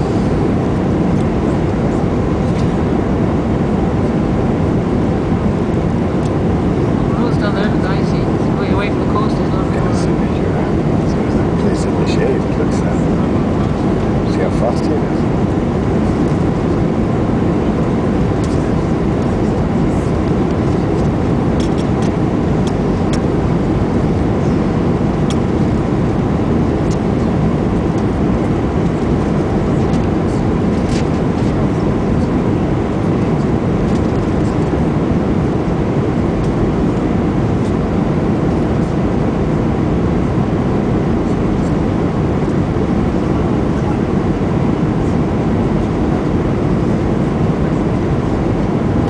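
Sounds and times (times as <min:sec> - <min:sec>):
airliner cabin engine noise: 0:00.0 - 0:49.0.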